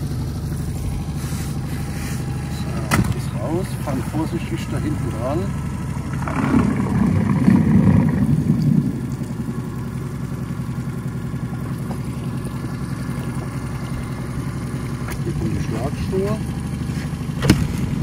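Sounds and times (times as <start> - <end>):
engine running with low throb: 0.0 - 18.0.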